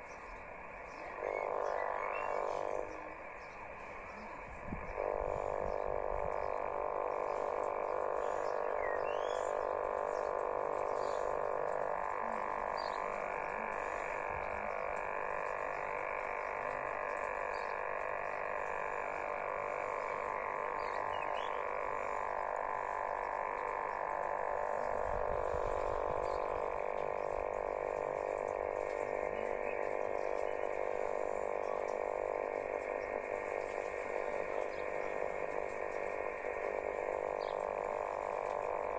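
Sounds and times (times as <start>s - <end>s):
radio interference noise: 0.0s - 38.9s.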